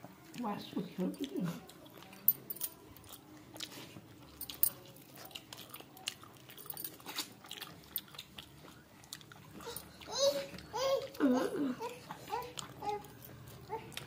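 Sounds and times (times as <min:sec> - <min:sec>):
person chewing and crunching: 0:01.2 - 0:14.0.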